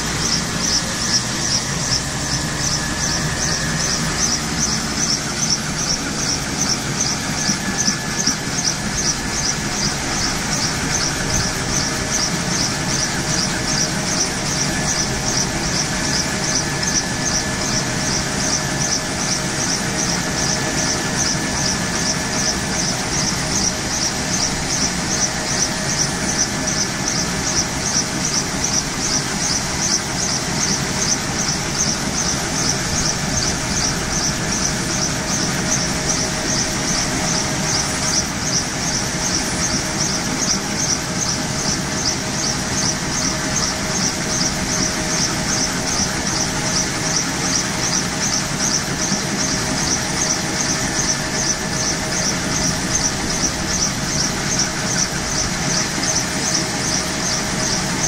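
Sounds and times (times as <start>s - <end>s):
helicopter turbine whine: 0.0s - 58.0s
pulsing rotor hiss: 0.0s - 58.0s.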